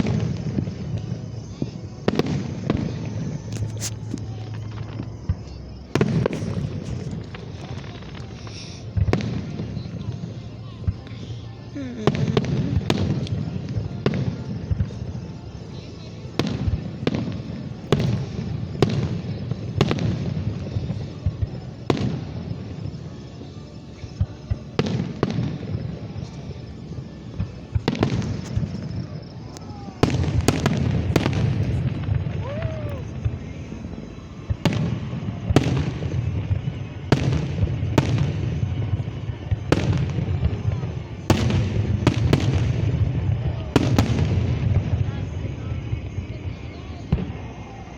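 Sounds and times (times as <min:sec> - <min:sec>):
fireworks bangs: 0:00.0 - 0:11.2, 0:11.8 - 0:15.5, 0:16.3 - 0:23.1, 0:24.4 - 0:47.6.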